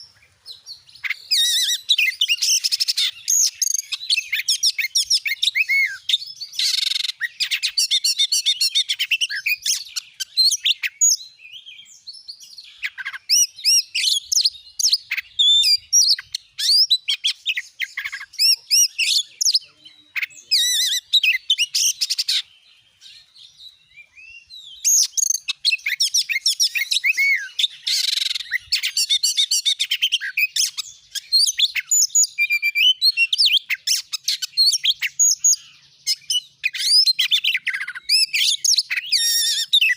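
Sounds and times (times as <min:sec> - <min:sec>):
bird song whistles and chirps: 0:00.0 - 0:39.9.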